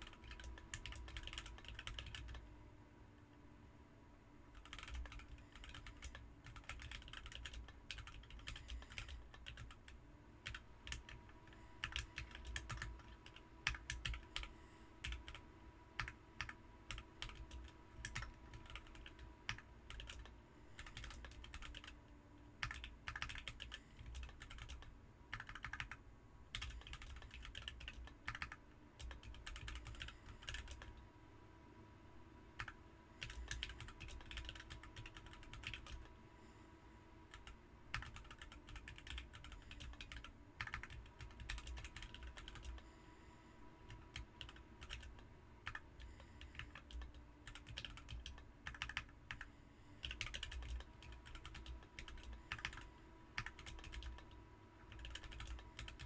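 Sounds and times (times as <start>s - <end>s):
mechanical keyboard typing: 0.0s - 2.4s, 4.6s - 15.4s, 16.0s - 22.0s, 22.6s - 30.9s, 32.6s - 36.1s, 37.3s - 42.8s, 43.9s - 56.0s.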